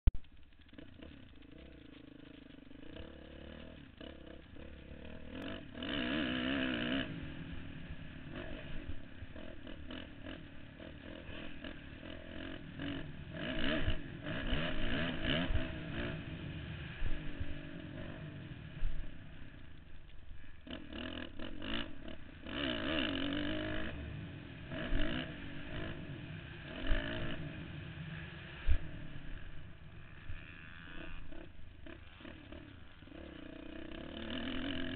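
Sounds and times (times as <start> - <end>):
dirt bike engine revving: 0.3 - 34.9.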